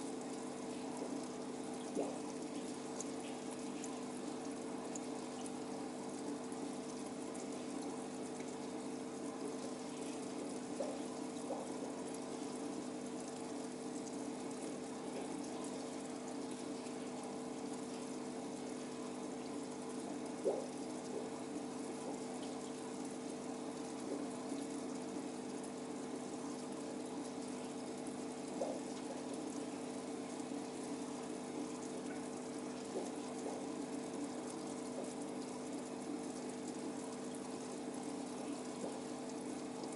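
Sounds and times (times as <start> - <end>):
aquarium pump humming: 0.0 - 39.9
water bubbling and trickling: 0.0 - 39.9
faint ticks: 0.7 - 39.9.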